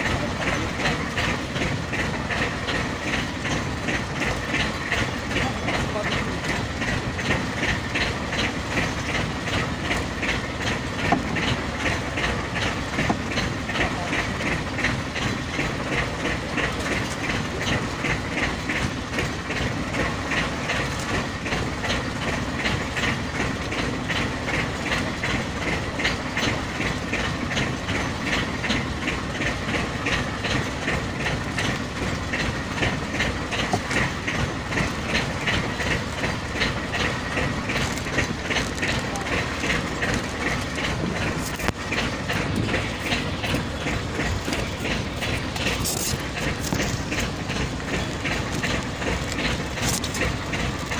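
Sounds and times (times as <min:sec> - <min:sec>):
boat engine running: 0:00.0 - 0:50.9.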